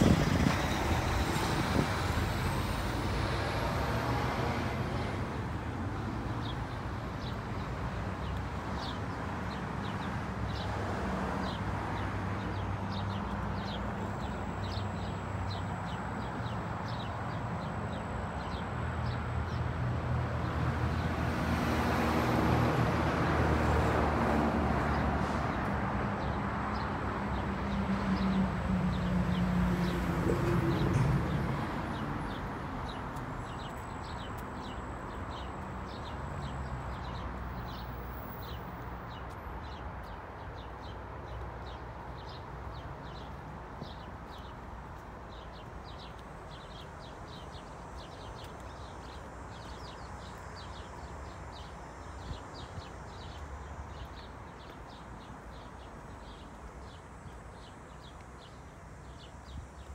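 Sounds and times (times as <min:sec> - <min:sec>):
distant traffic hum: 0:00.0 - 0:59.9.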